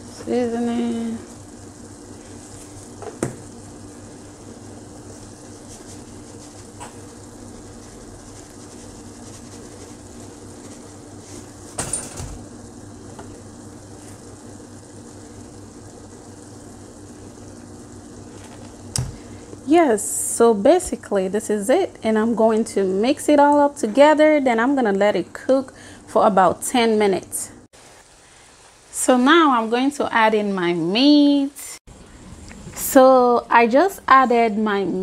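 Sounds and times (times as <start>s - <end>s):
faint hum: 0.0s - 35.0s
stew sizzling in a pot: 0.0s - 35.0s.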